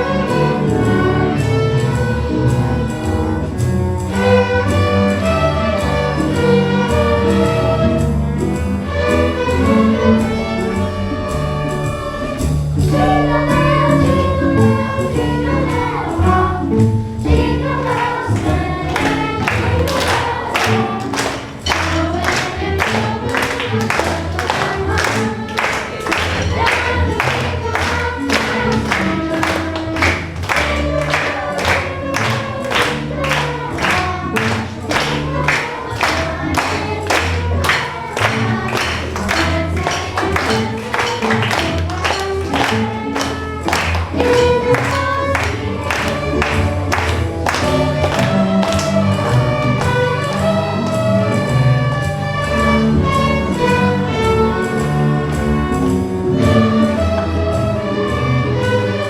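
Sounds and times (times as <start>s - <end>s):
string orchestra playing: 0.0s - 59.0s.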